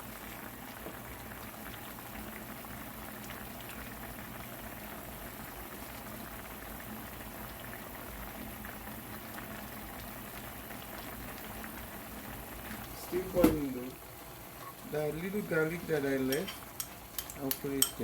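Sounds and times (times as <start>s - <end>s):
sauce bubbling in a pot: 0.0s - 18.0s.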